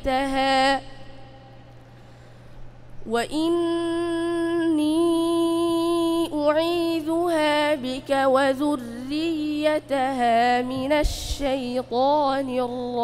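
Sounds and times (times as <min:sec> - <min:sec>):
boy reciting melodically: 0:00.0 - 0:01.5, 0:03.0 - 0:13.0.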